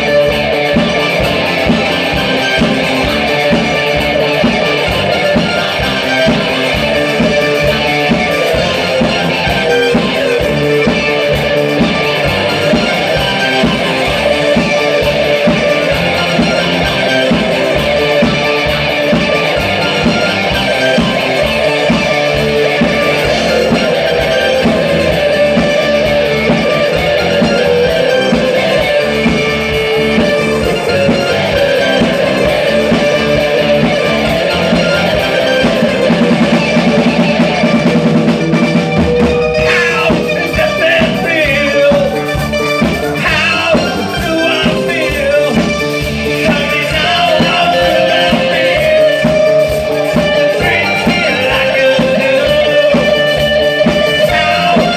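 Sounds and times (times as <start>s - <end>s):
bass guitar: 0.0s - 54.9s
electric guitars: 0.0s - 54.9s
lead vocals: 0.0s - 54.9s
steady drum beat: 0.0s - 54.9s.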